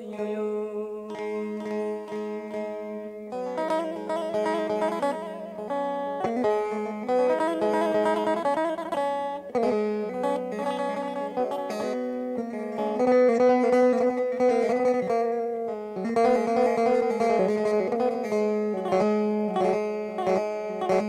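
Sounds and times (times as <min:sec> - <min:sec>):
long-necked lute folk melody: 0:00.0 - 0:21.0.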